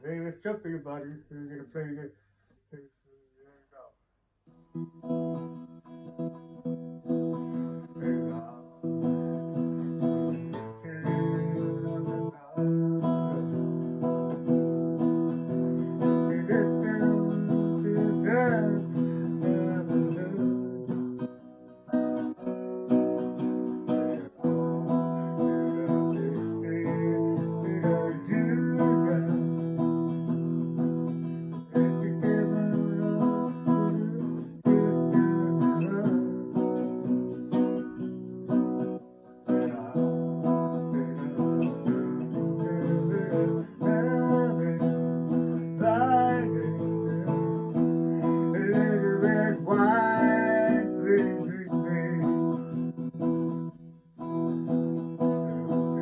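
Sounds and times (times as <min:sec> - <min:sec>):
acoustic guitar strumming: 0:00.0 - 0:02.8, 0:04.4 - 0:56.0.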